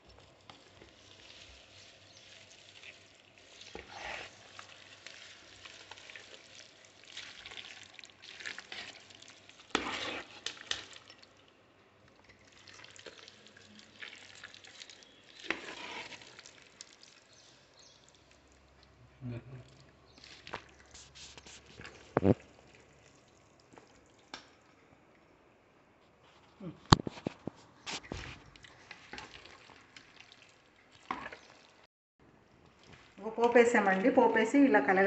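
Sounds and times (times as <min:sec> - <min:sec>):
squelching stirring of pickle: 0:00.0 - 0:19.0, 0:19.6 - 0:24.8, 0:26.4 - 0:31.9, 0:32.6 - 0:34.7.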